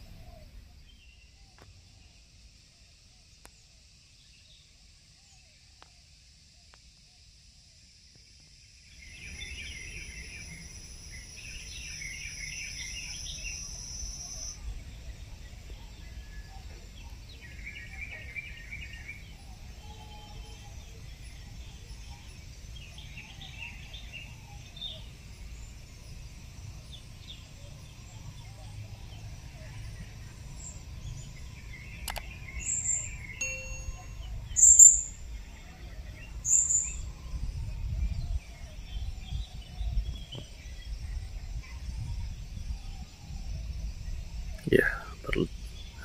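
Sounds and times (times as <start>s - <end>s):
insect high whine: 0.0s - 46.0s
small birds twittering: 8.0s - 46.0s.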